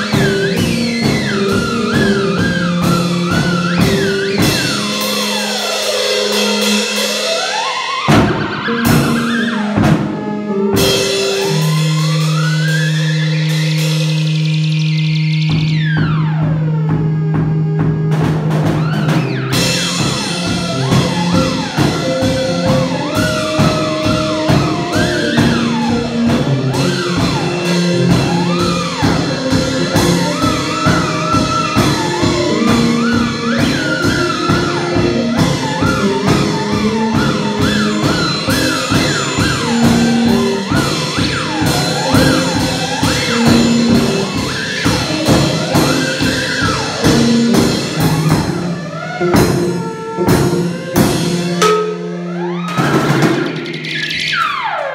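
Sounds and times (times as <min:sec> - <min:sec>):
drumbeat: 0:00.0 - 0:07.5, 0:15.5 - 0:53.8
electronic keyboard notes: 0:00.0 - 0:54.9
theremin wavering: 0:00.0 - 0:54.9.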